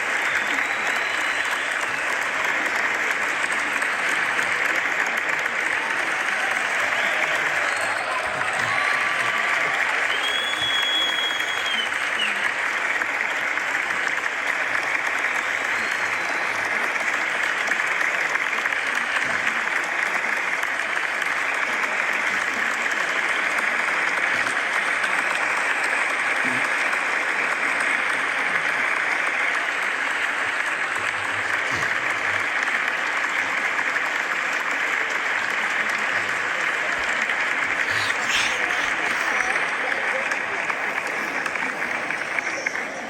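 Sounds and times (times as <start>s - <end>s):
large crowd applauding: 0.0s - 43.0s.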